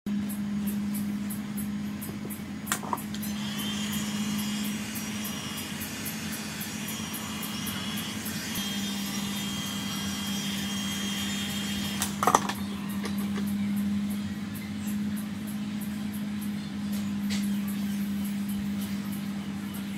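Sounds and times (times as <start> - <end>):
small electric motor humming: 0.2 - 19.9.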